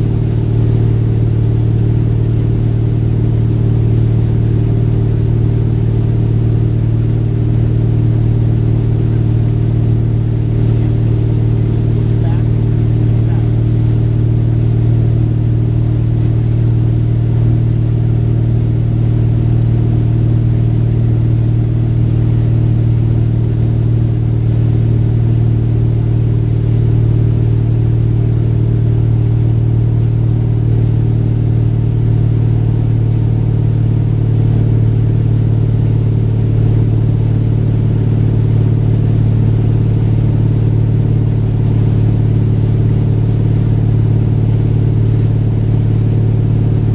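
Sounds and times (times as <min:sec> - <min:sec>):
boat engine drone: 0:00.0 - 0:46.9.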